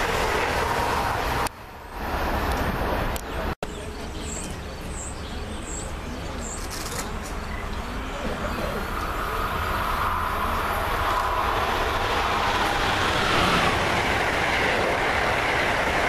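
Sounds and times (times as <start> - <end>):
high-speed train passing: 0.0 - 5.7, 7.1 - 16.0.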